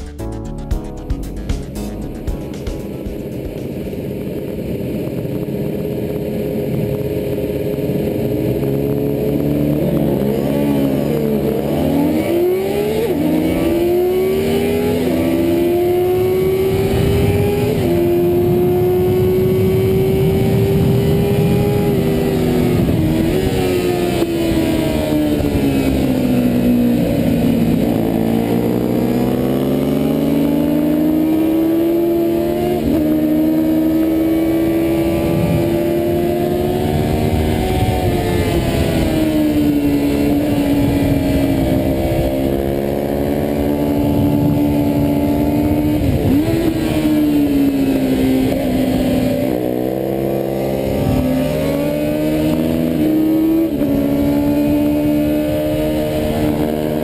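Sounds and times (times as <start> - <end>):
motorcycle engine revving and upshifting: 1.7 - 57.0.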